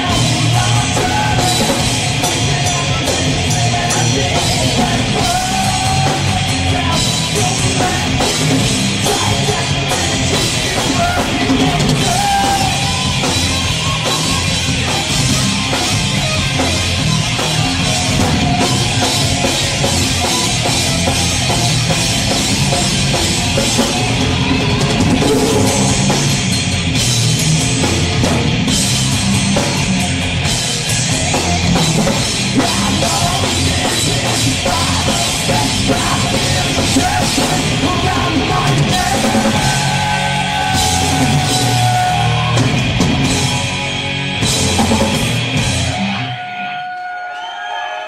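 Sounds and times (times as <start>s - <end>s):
heavy rock band playing: 0.0s - 47.2s
crowd cheering and whistling: 0.0s - 48.0s.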